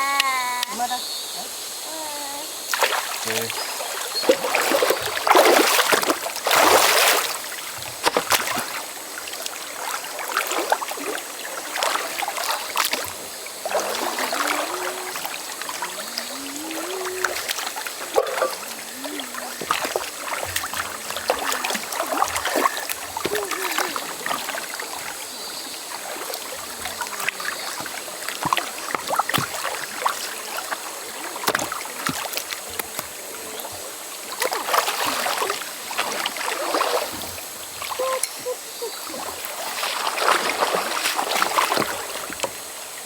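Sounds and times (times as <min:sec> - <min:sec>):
river water splashing: 0:00.0 - 0:43.0.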